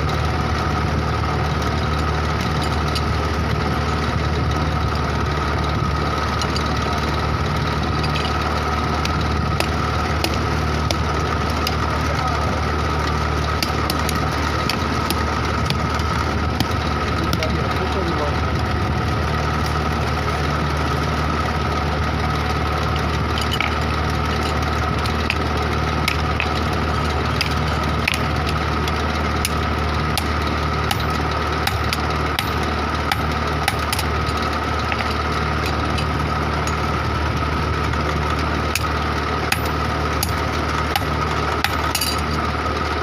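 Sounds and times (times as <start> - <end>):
machine hum with low drone: 0.0 - 43.0.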